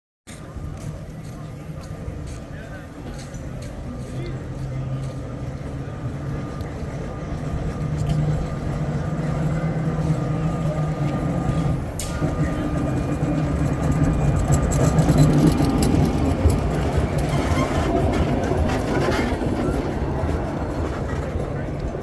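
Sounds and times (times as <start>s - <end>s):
electric tram rumble and hum: 0.3s - 22.0s
wheels clicking and rattling: 0.3s - 22.0s.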